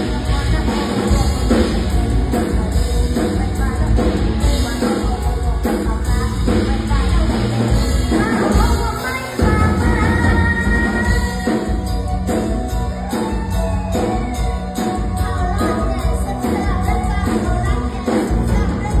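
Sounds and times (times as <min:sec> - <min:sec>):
person singing: 0:00.0 - 0:19.0.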